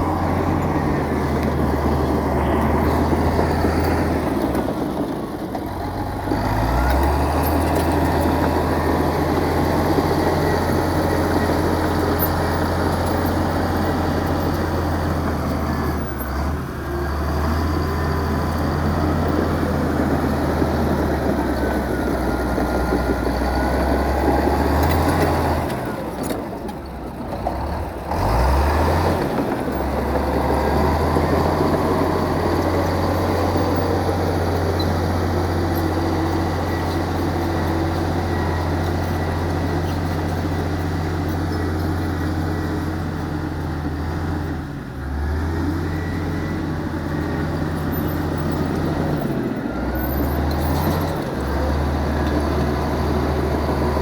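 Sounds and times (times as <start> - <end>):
diesel machinery droning: 0.0 - 54.0.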